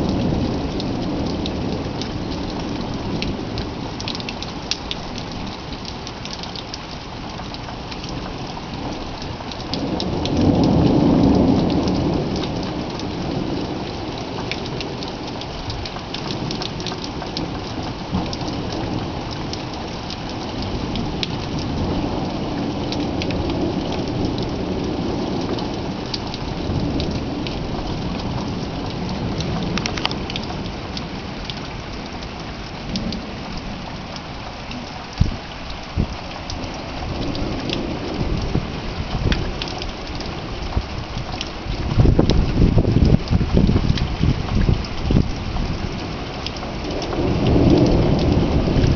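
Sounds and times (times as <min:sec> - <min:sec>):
rain falling: 0:00.0 - 0:48.9
raindrops ticking close by: 0:00.0 - 0:48.9
thunder rumbling: 0:08.7 - 0:48.9.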